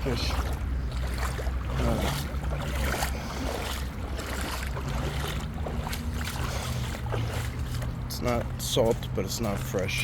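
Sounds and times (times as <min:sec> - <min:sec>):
water sloshing around legs: 0:00.0 - 0:10.0.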